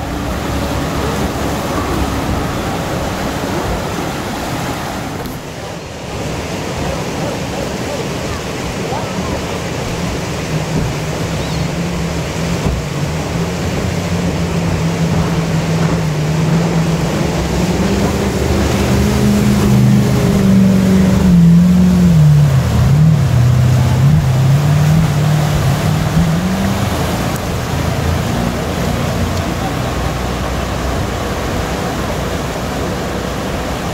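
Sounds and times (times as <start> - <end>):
jet boat engine running hard: 0.0 - 33.9
whitewater rushing: 0.0 - 33.9.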